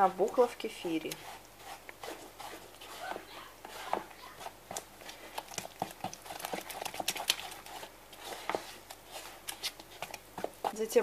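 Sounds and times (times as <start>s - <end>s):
wooden spoon scraping plastic bowl: 0.1s - 11.0s.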